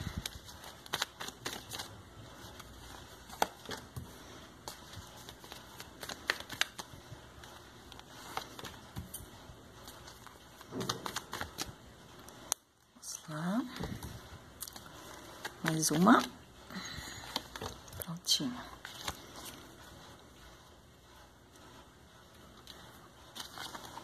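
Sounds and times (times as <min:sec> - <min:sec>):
cards being shuffled by hand: 0:00.0 - 0:12.6, 0:13.6 - 0:24.0.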